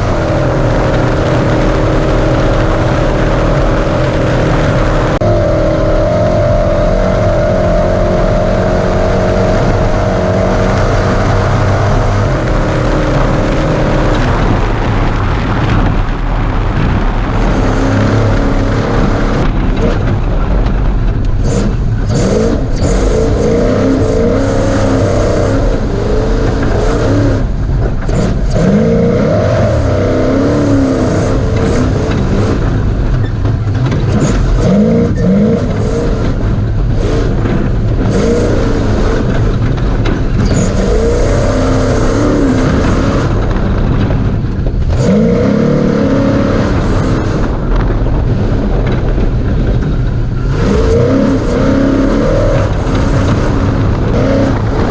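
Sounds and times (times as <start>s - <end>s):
rush of noise: 0.0s - 54.9s
truck engine revving hard: 0.0s - 54.9s.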